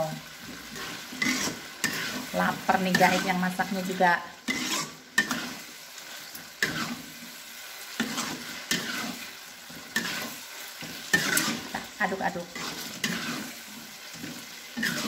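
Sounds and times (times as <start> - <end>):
sauce sizzling: 0.0 - 15.0
spatula scraping a wok: 0.0 - 15.0.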